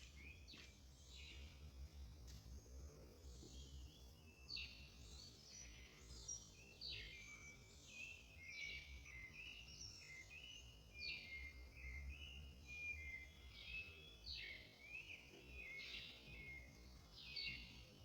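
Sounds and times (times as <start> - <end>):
faint bird song: 0.0 - 18.0.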